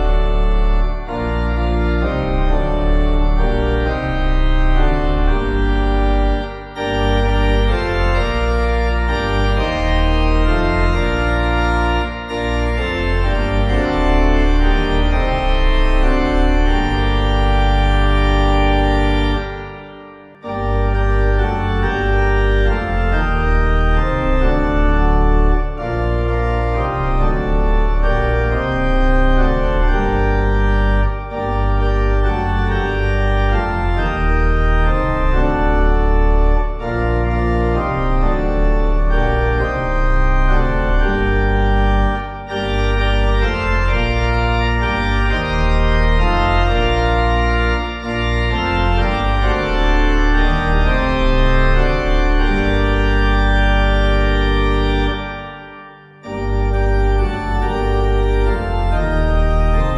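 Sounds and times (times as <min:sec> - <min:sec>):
church organ playing hymn: 0:00.0 - 0:59.9.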